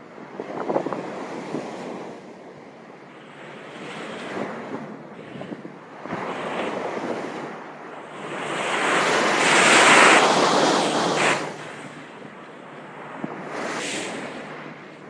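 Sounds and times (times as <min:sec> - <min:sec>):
rushing wind and sea: 0:00.0 - 0:15.0
wind buffeting microphone: 0:00.0 - 0:15.0.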